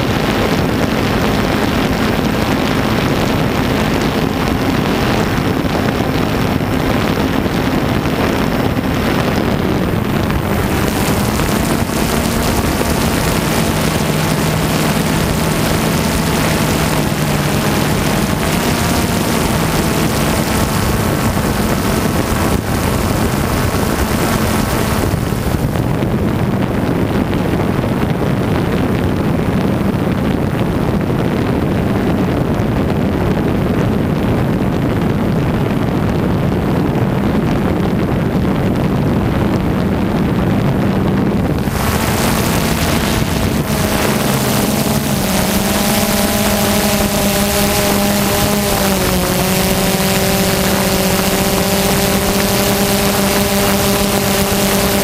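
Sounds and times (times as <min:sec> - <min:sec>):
drone propellers buzzing: 0:00.0 - 0:33.6, 0:38.8 - 0:55.0
steady motor whine: 0:00.0 - 0:55.0
wind on microphone: 0:00.0 - 0:55.0.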